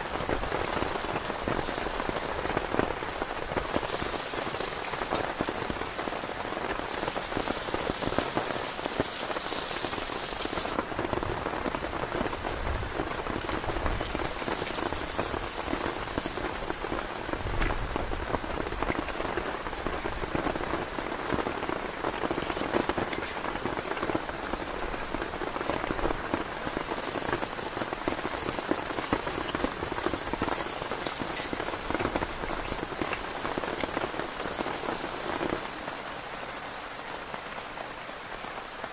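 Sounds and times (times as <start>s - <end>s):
heavy rain on a tent: 0.0s - 38.9s.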